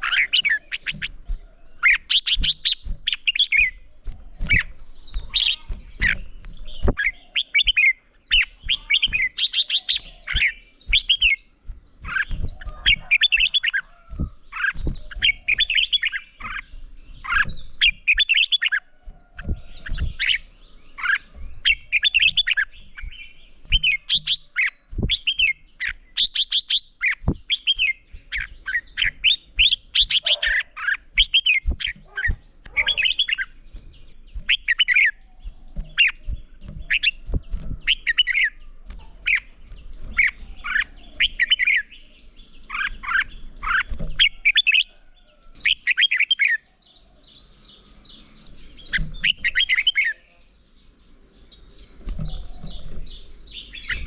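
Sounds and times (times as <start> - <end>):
bulbul warbling song: 0.0 - 50.3.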